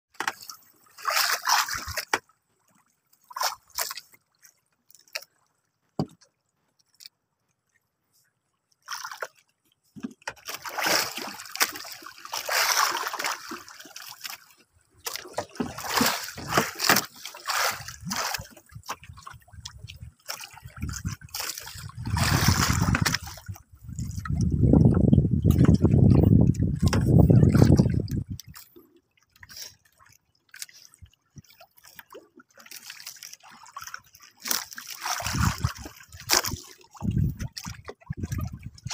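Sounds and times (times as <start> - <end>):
water splashing against boat hull: 0.1 - 38.9.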